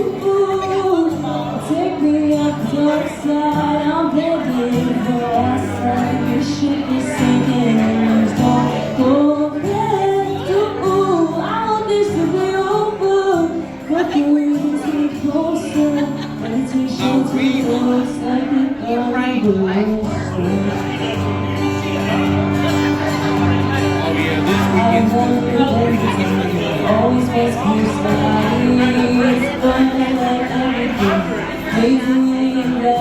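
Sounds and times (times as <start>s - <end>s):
girl singing: 0.0s - 20.4s, 24.7s - 33.0s.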